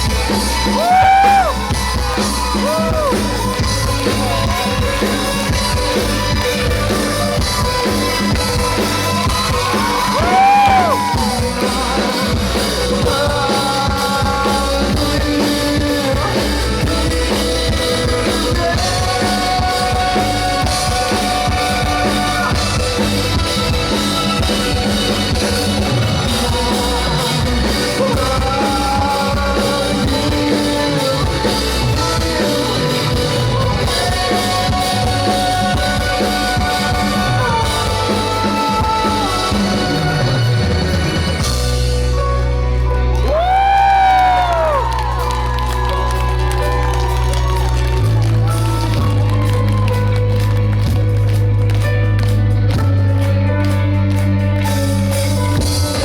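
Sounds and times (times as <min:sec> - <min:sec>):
person singing: 0:00.0 - 0:51.2, 0:52.7 - 0:56.0
drum kit: 0:00.0 - 0:56.0
live rock band: 0:00.0 - 0:56.0.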